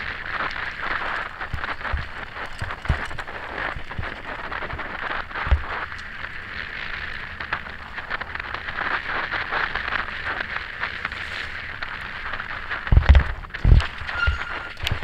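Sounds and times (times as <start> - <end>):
bike rattles and clicks: 0.0 - 15.0.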